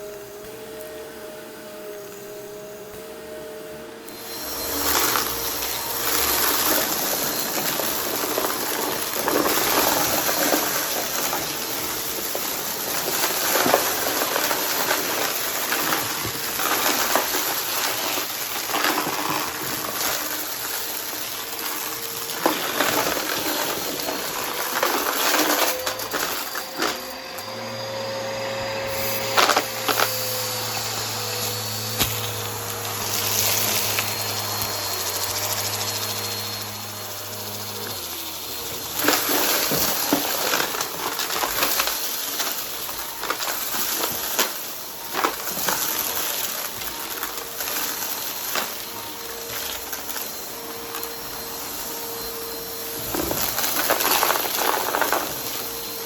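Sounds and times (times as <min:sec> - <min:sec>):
vacuum cleaner running: 0:00.0 - 0:56.0
crunchy debris crackling: 0:04.7 - 0:27.2, 0:28.9 - 0:56.0.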